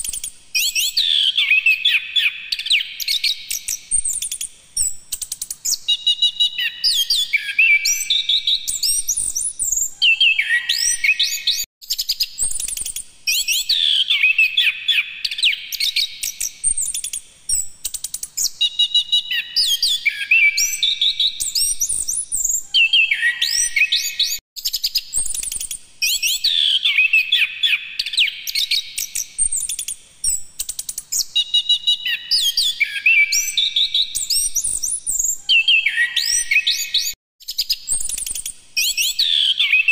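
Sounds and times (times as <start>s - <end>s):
thrush singing whistles: 0.0s - 5.0s, 5.6s - 17.8s, 18.4s - 39.9s.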